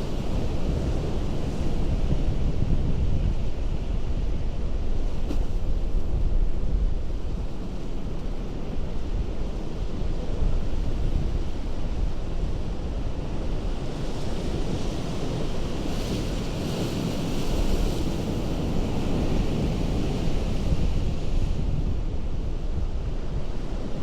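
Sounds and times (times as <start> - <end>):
low rumble of wind: 0.0 - 24.0
ocean surf on rocks: 0.0 - 24.0.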